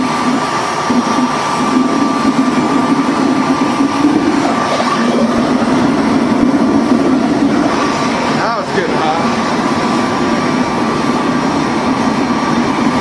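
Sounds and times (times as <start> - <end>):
faint steady whine: 0.0 - 13.0
furnace blower and flame roar: 0.0 - 13.0.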